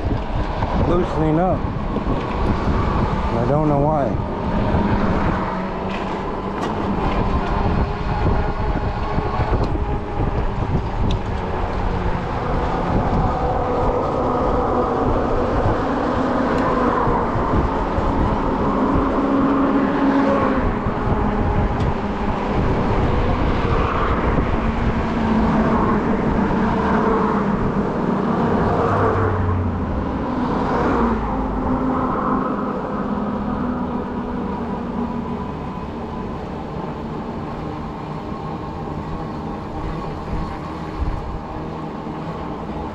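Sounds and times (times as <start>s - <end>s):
tyres rumbling on road: 0.0s - 42.9s
wind buffeting microphone: 0.0s - 42.9s.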